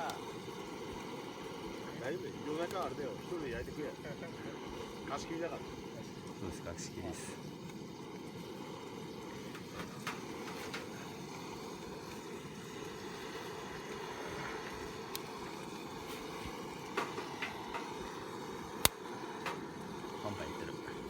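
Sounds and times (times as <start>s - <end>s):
fire crackling and popping: 0.0s - 21.0s
fire flame rushing: 0.0s - 21.0s.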